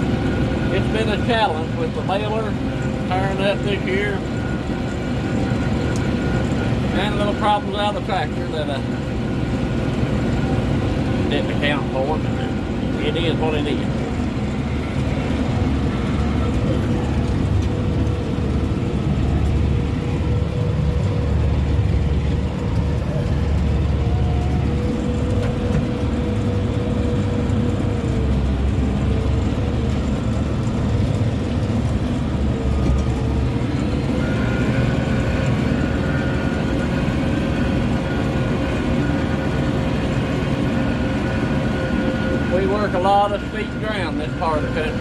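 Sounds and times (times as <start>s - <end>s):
tractor engine rumbling with whine: 0.0s - 45.0s.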